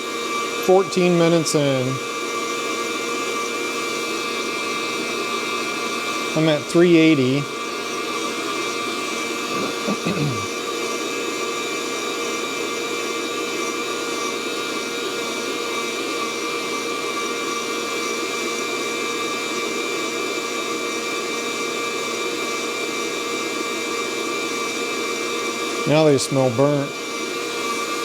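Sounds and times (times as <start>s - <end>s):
coffee roaster fan whirring: 0.0s - 28.0s.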